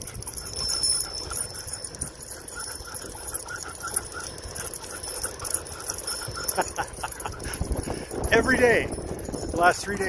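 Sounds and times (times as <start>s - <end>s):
dog panting quickly: 0.0s - 9.6s
wind rumble on microphone: 0.0s - 10.0s.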